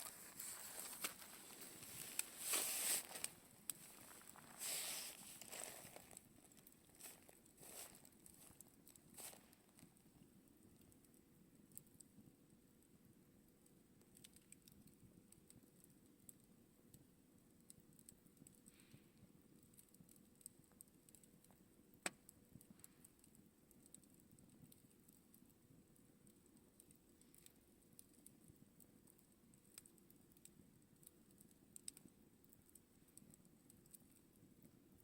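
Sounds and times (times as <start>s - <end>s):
campfire crackling: 0.0s - 12.8s, 13.7s - 35.0s.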